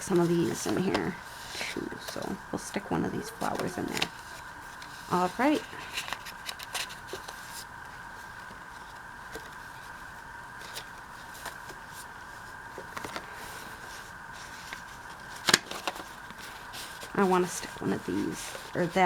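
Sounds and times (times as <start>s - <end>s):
paper rustling: 0.0s - 19.0s.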